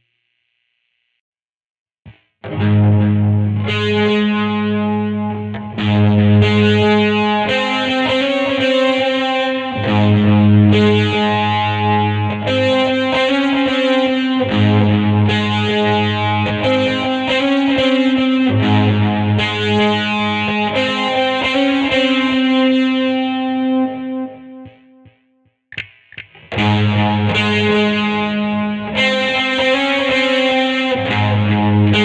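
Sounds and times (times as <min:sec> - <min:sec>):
distorted electric guitar chords: 0:02.0 - 0:32.0.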